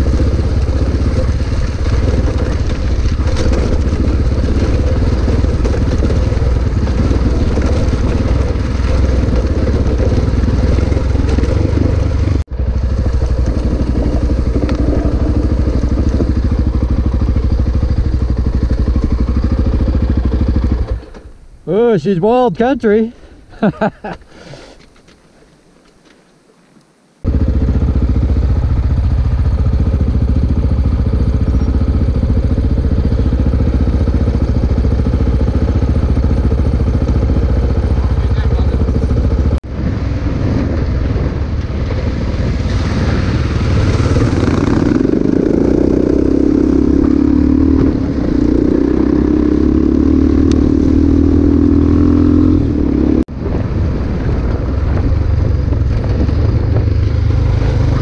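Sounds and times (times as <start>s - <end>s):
dirt bike engine running: 0.0s - 21.5s, 27.2s - 58.0s.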